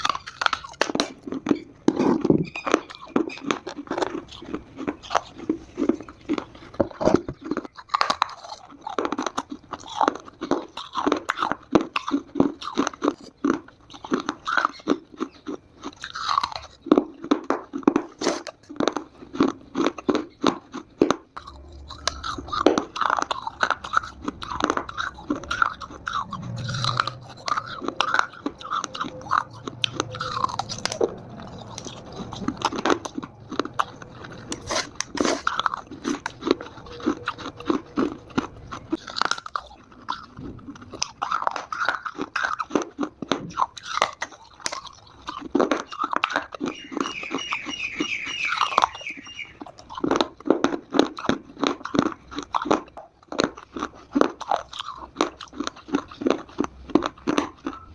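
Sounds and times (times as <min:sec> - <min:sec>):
clay being chewed with crunches: 0:00.0 - 0:57.9.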